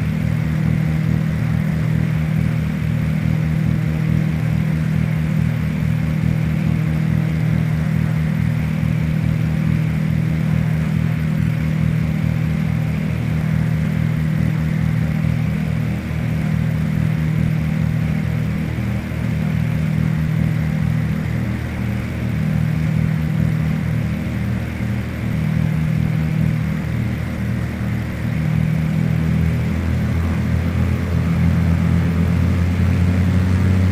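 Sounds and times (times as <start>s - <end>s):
plane piston engines droning: 0.0s - 33.9s.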